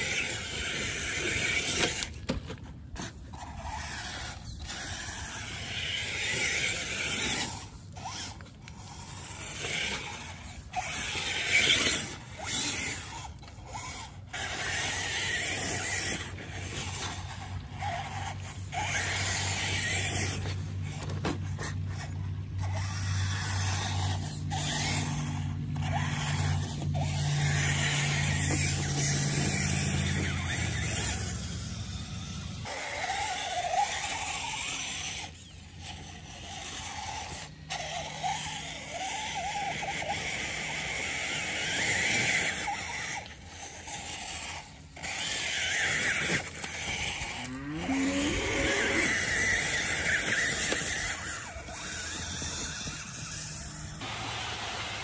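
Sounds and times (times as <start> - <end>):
electric motor and gears whining: 0.0 - 55.0
steady low hum: 0.0 - 55.0
tyres scrabbling on dirt and stones: 0.0 - 55.0.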